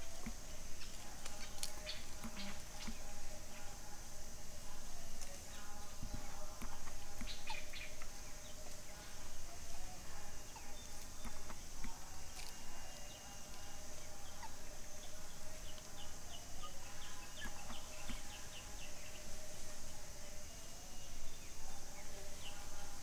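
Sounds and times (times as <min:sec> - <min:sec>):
steady high hum: 0:00.0 - 0:23.0.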